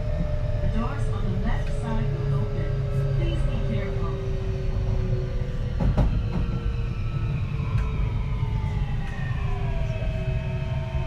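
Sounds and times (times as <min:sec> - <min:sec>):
low rumble of running train: 0:00.0 - 0:11.0.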